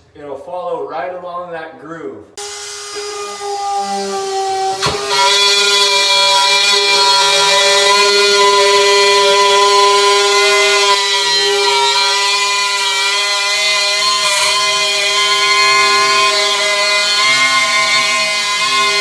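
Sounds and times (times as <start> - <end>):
rotary cutting tool whining: 2.4 - 19.0.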